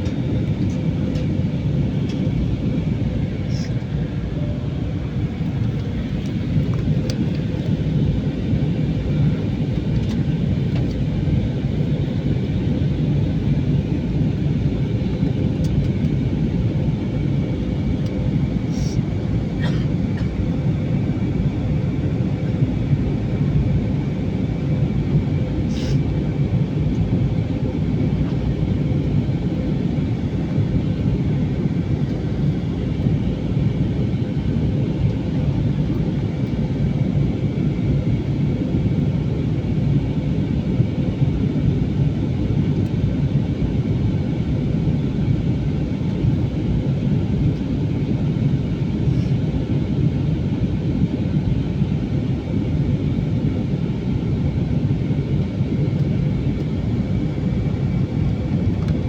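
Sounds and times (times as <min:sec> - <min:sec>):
aircraft engines rumbling: 0:00.0 - 0:59.0.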